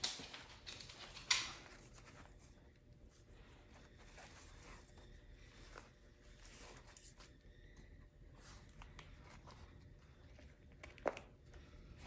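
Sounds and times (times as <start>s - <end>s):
ribbon rustling: 0.0s - 11.4s.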